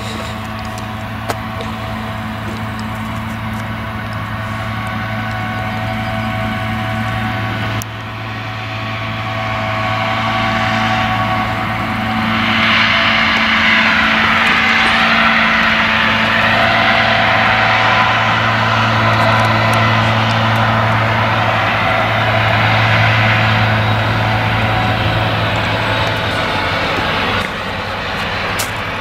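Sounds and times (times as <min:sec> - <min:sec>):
harvester engine drone: 0:00.0 - 0:29.0.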